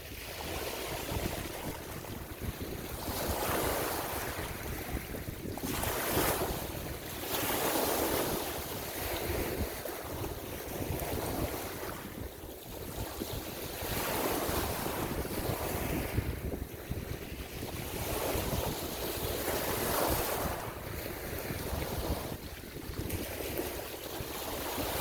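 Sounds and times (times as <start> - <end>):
ocean waves breaking: 0.0 - 25.0
wind buffeting microphone: 0.0 - 25.0.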